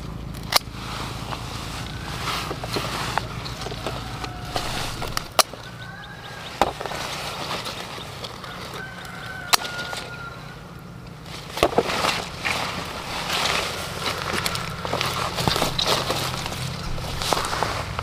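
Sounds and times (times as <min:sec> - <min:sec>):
leaves and stems rustling: 0:00.0 - 0:18.0
pruning shears clicking: 0:00.3 - 0:10.3, 0:11.0 - 0:18.0
distant poultry calling: 0:00.8 - 0:18.0.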